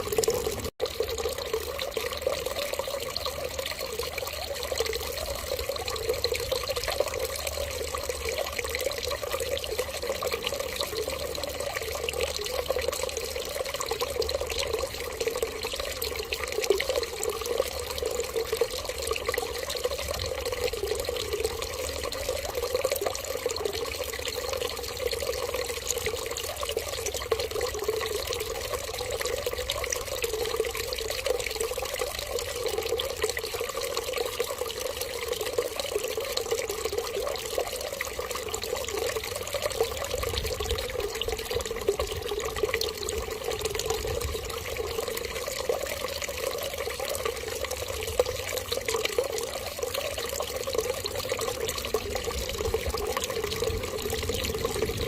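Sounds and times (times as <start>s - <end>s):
water running and trickling: 0.0s - 55.0s.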